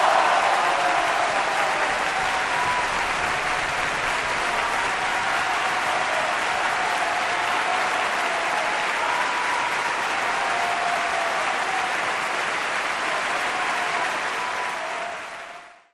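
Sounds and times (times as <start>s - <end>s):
dense applause: 0.0s - 15.9s.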